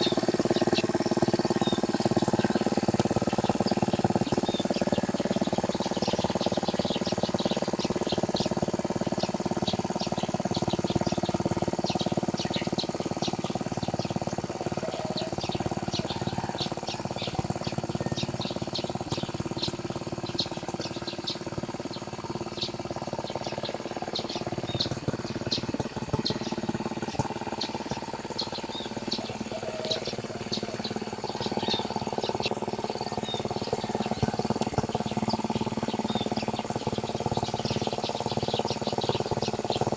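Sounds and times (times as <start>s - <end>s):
high bird chirps: 0.0s - 39.9s
small tractor engine running: 0.0s - 39.9s.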